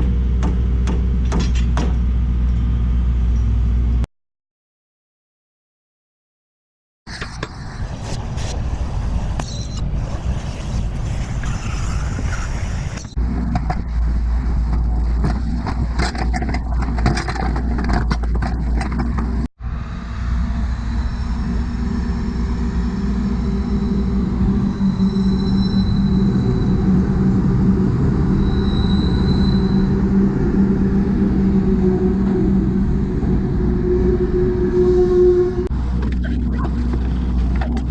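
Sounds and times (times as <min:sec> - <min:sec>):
engine-driven machinery running: 0:07.4 - 0:37.9.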